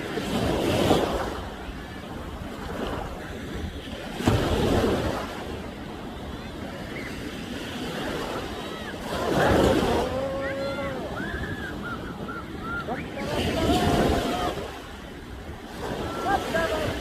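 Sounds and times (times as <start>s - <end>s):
ocean waves breaking: 0.0s - 17.0s
wind buffeting microphone: 0.0s - 17.0s.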